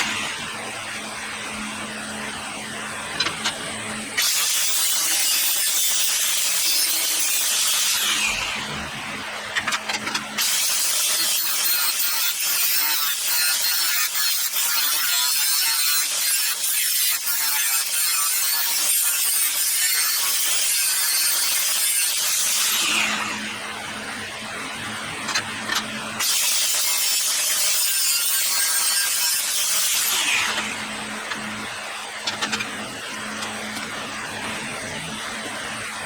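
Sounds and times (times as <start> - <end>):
grinder humming: 0.0 - 36.0
power grinder grinding steel: 3.1 - 8.8, 9.5 - 23.7, 25.1 - 35.3.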